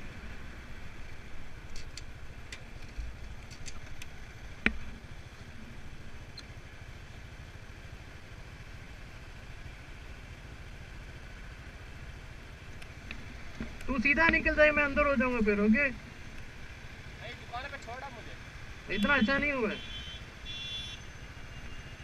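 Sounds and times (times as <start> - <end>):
scooter engine idling: 0.6 - 22.0.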